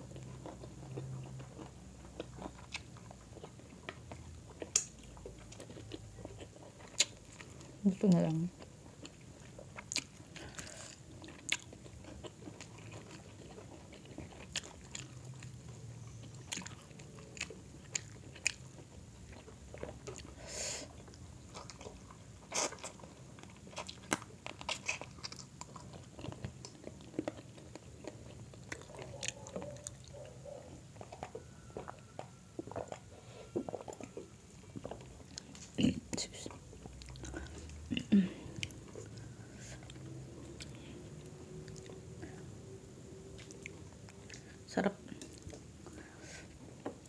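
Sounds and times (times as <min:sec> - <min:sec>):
chewing food: 0:00.0 - 0:47.0.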